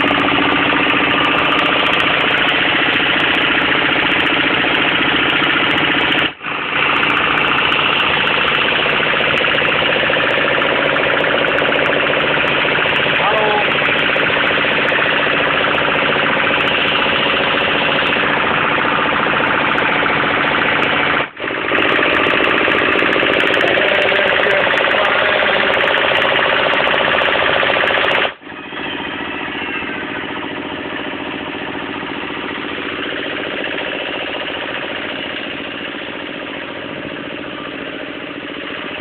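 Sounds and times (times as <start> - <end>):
engine driving a compressor: 0.0 - 39.0.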